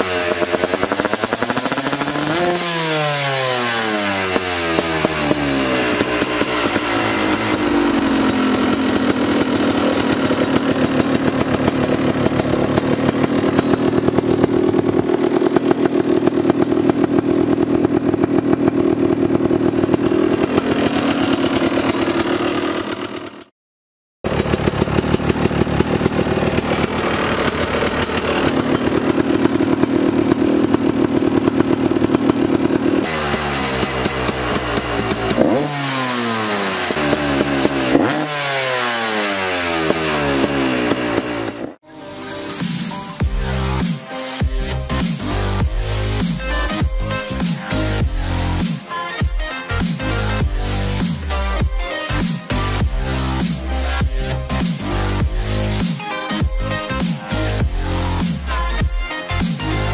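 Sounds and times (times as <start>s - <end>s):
two-stroke engine idling and revving: 0.0s - 23.5s, 24.2s - 41.8s, 42.5s - 59.9s.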